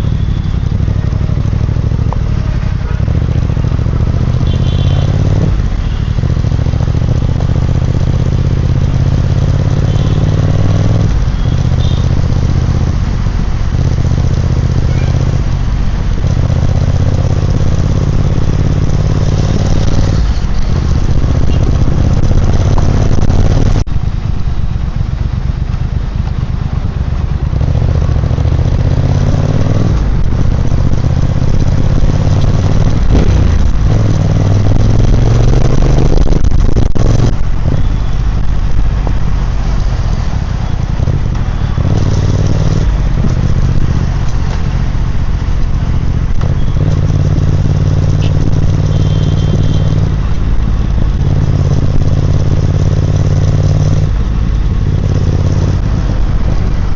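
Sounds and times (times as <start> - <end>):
motorcycle engine while riding: 0.0 - 56.9.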